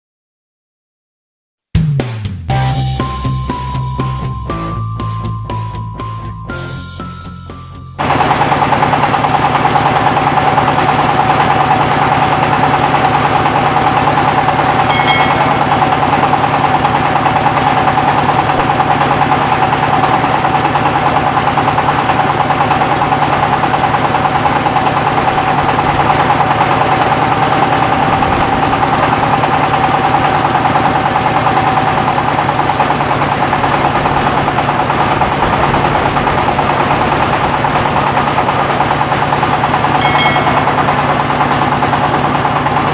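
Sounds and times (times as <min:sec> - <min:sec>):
engine chugging: 0:02.5 - 0:42.9
mill whine: 0:02.5 - 0:42.9.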